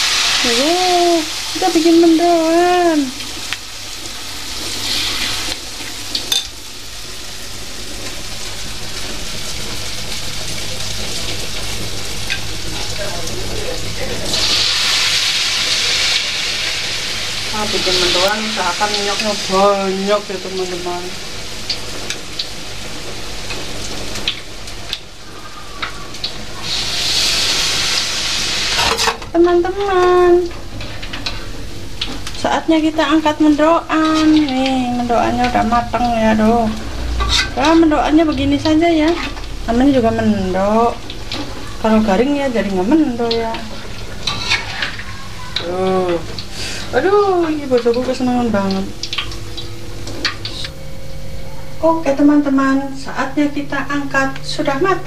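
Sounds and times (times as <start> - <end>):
batter frying in hot oil: 0.0 - 55.0.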